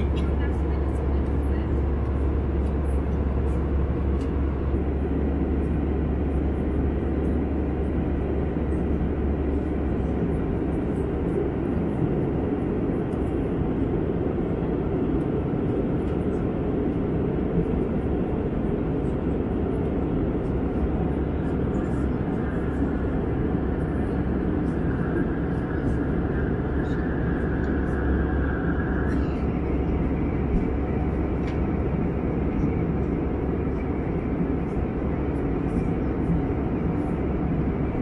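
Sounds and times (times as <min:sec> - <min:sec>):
airliner cabin drone: 0:00.0 - 0:38.0.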